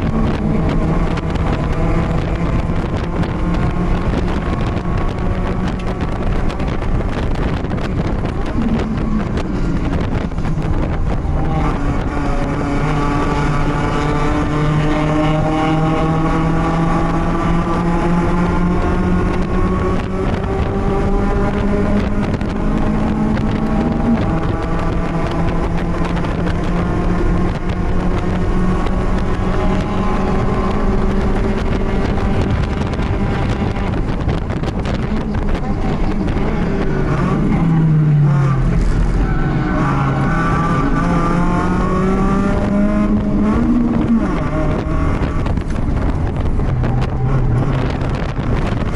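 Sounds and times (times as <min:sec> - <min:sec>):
race car engine running hard: 0:00.0 - 0:48.9
wind noise: 0:00.0 - 0:48.9.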